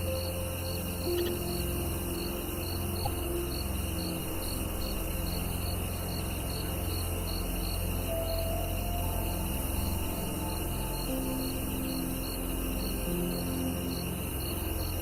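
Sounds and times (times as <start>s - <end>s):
cricket chirping: 0.0s - 15.0s
soft ambient music: 0.0s - 15.0s.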